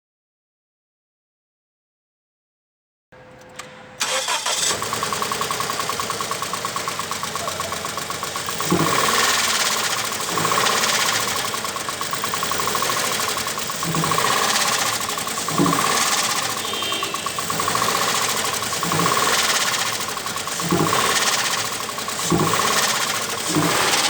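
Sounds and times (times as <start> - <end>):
car engine knocking: 3.3 - 24.0.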